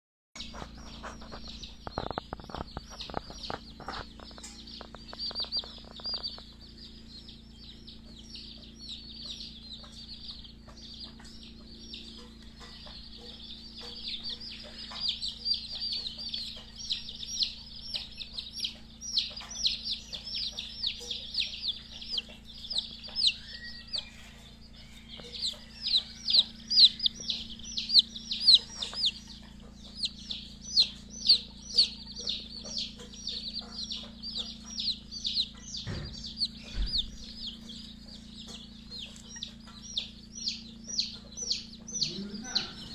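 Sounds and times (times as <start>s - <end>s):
chicks peeping: 0.4s - 42.9s
steady low hum: 0.4s - 42.9s.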